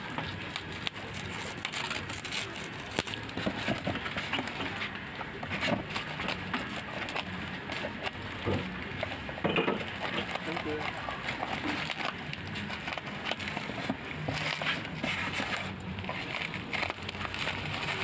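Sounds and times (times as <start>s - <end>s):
bubble wrap crinkling and crackling: 0.0s - 18.0s.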